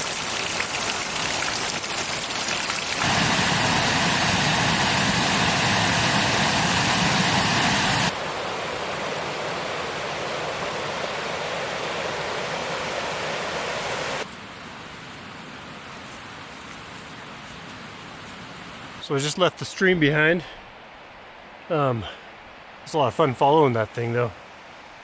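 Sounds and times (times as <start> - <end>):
mountain stream rushing: 0.0 - 25.0.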